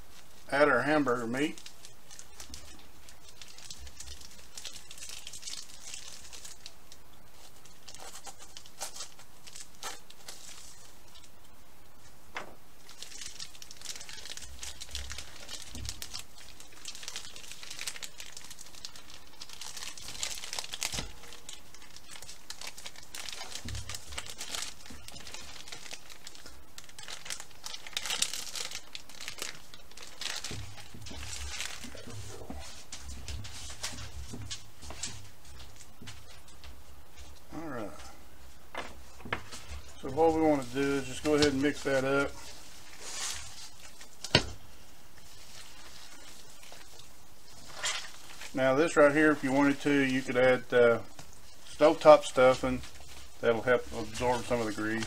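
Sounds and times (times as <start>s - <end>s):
plastic film crinkling and tearing: 0.0s - 12.1s, 12.8s - 55.0s.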